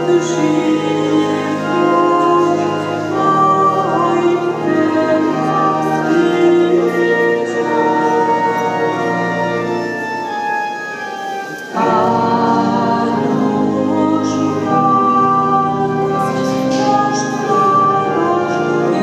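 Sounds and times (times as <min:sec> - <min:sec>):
person singing: 0:00.0 - 0:10.2, 0:11.6 - 0:19.0
pipe organ chords: 0:00.0 - 0:19.0.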